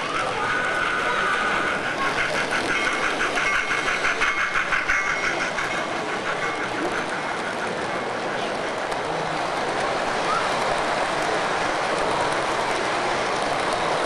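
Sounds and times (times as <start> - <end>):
model steam locomotive chuffing: 0.0 - 14.0
passenger cars rolling by: 0.0 - 14.0.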